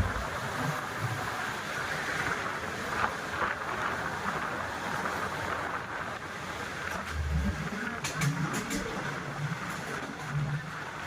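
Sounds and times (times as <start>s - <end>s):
passenger train rushing: 0.0s - 11.0s
wind: 0.0s - 11.0s.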